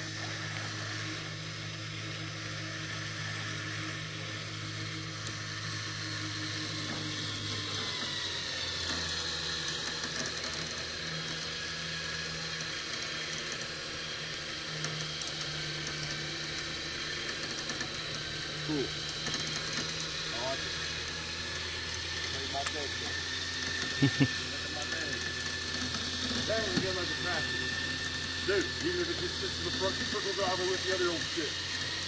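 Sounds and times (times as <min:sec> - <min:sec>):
winch motor running: 0:00.0 - 0:32.0.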